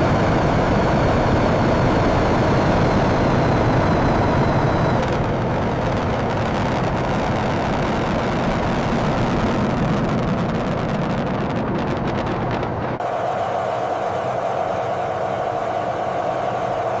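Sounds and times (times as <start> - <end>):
heavy engine rumbling: 0.0 - 17.0.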